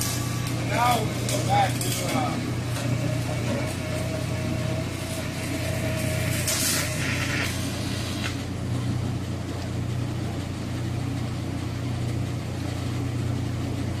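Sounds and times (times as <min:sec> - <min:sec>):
welding machinery hum and hiss: 0:00.0 - 0:14.0.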